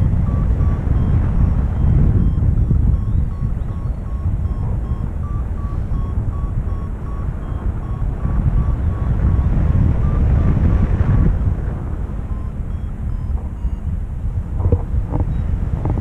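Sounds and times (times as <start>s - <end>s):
variometer beeping: 0.0s - 16.0s
wind rushing over microphone: 0.0s - 16.0s.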